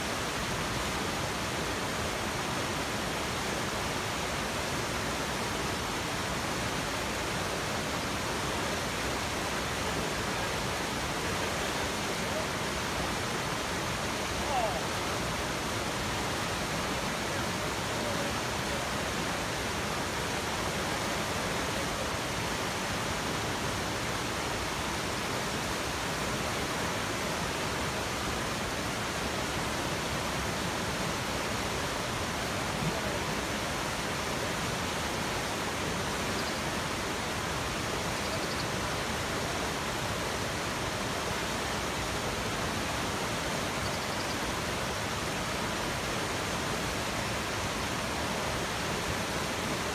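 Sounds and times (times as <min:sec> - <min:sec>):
whitewater rapids rushing: 0:00.0 - 0:49.9.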